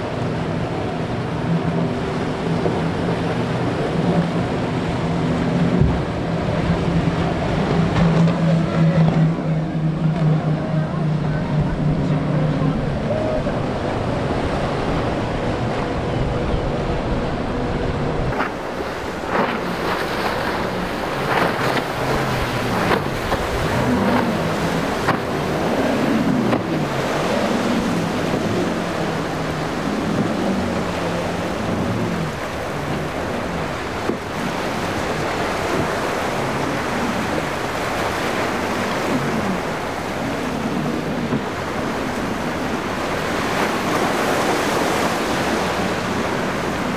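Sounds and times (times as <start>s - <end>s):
outboard engines: 0.0s - 46.9s
rough surf: 0.0s - 46.9s.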